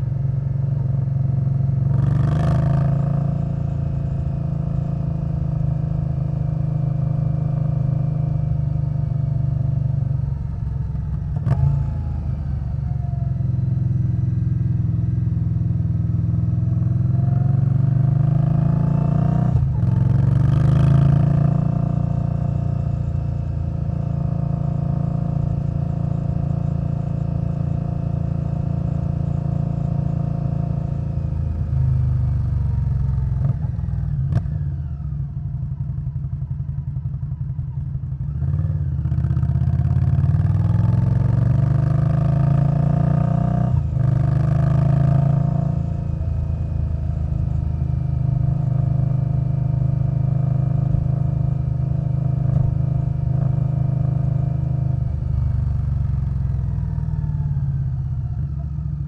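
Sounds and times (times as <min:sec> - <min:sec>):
motorcycle engine revving: 0:00.0 - 0:12.2, 0:15.8 - 0:35.2, 0:38.2 - 0:59.0.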